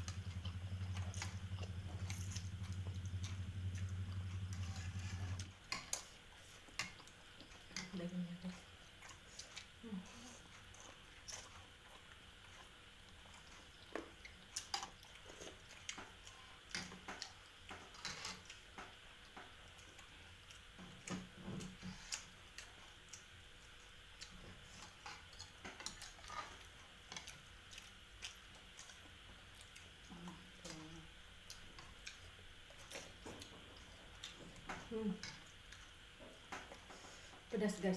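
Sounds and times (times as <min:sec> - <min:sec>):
people slurping and chewing noodles: 0:00.0 - 0:37.5.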